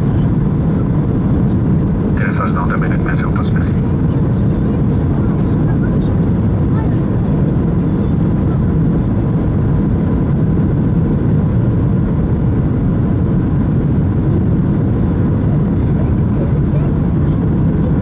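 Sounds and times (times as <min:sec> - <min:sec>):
airplane cabin roar: 0:00.0 - 0:18.0.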